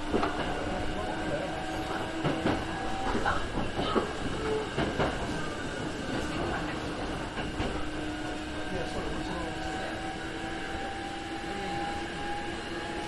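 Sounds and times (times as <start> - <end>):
train wheels running on rails: 0.0 - 13.0.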